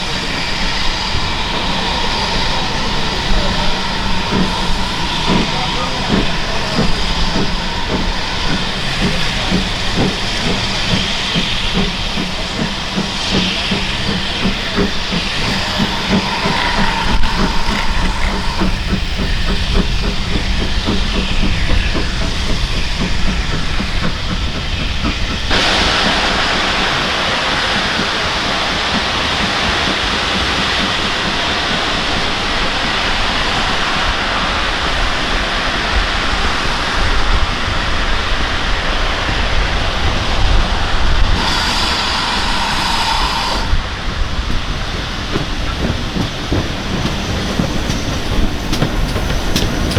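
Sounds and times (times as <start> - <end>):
steam hissing: 0.0 - 49.9
steam train clatter: 0.0 - 49.9.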